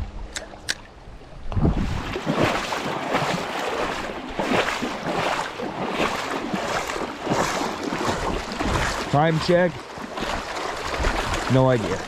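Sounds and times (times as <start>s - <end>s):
river water splashing: 0.3s - 12.0s.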